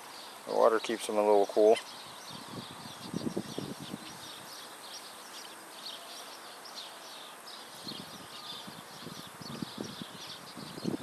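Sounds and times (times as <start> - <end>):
birds chirping: 0.0 - 11.0
faint outdoor hiss: 0.0 - 11.0.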